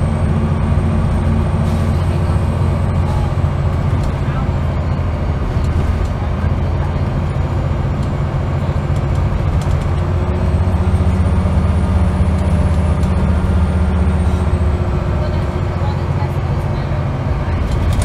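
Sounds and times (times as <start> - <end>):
bus diesel engine pulling: 0.0 - 18.0
road noise: 0.0 - 18.0.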